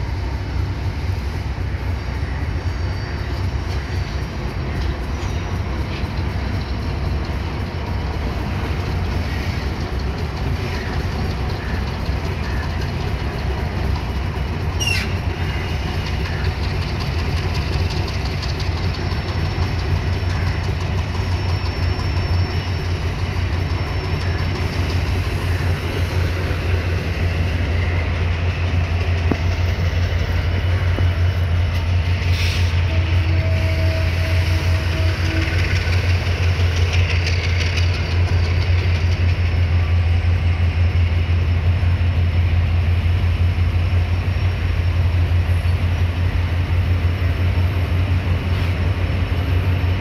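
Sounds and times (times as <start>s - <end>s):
rail noise: 0.0s - 50.0s
train engine drone: 0.0s - 50.0s.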